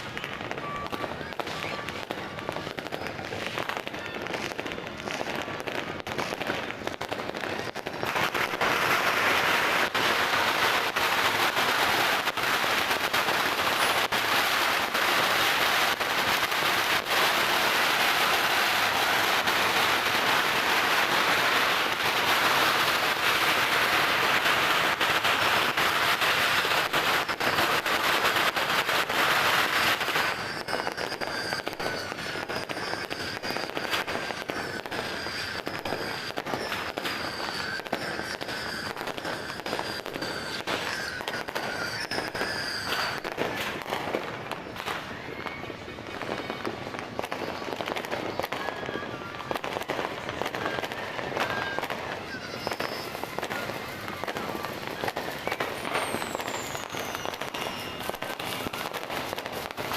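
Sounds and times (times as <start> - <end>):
fireworks popping and crackling: 0.0 - 59.9.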